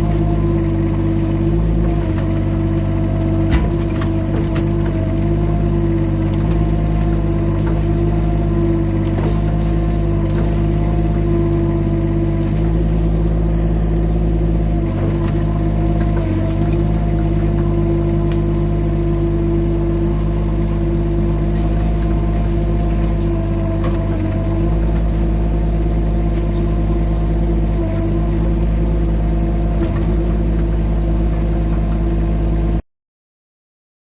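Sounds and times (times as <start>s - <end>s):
excavator engine droning: 0.0s - 32.8s.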